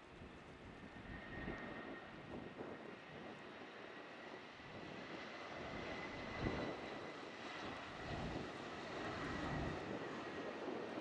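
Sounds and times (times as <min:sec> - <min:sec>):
jet airliner engines: 0:00.0 - 0:11.0.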